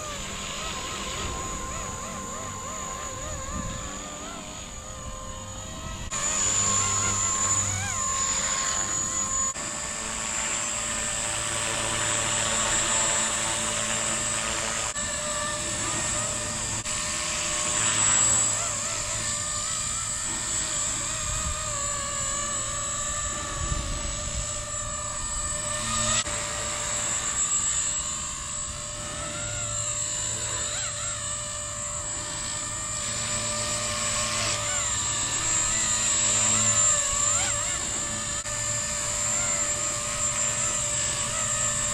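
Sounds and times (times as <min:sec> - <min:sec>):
rc helicopter whine and rotor buzz: 0:00.0 - 0:41.9.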